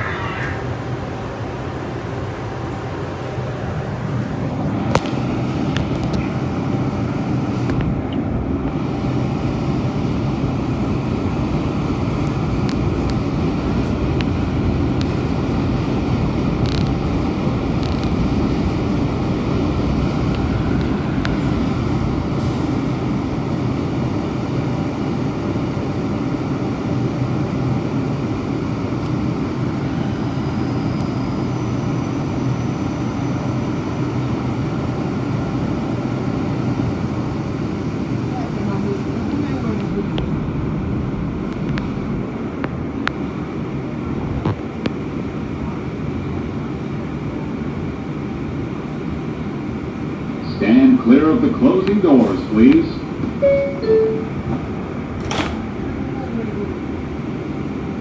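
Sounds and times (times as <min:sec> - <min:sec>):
subway car equipment hum: 0:00.0 - 0:58.0.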